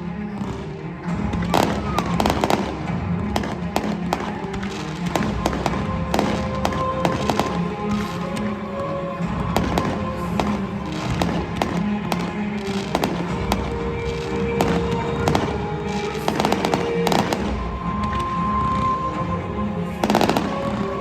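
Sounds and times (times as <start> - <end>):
fireworks bangs and crackling: 0.0 - 21.0
music playing: 0.0 - 21.0.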